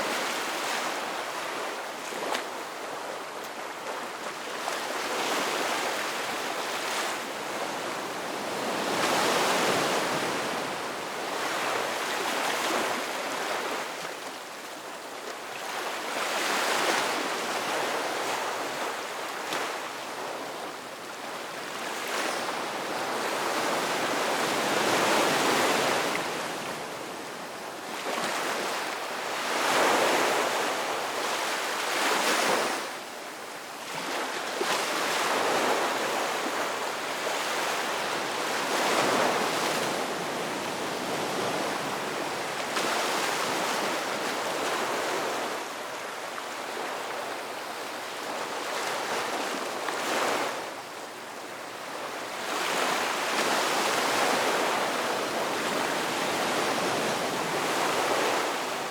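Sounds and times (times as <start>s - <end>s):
waves breaking on beach: 0.0s - 58.9s.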